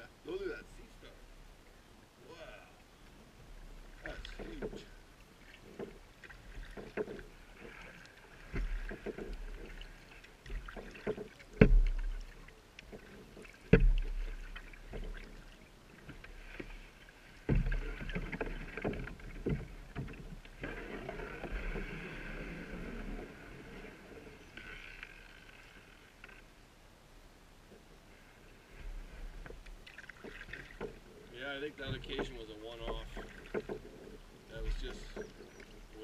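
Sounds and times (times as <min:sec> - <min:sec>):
paddle splashing: 0:00.2 - 0:26.7, 0:27.7 - 0:36.0
water lapping on kayak hull: 0:00.8 - 0:36.0.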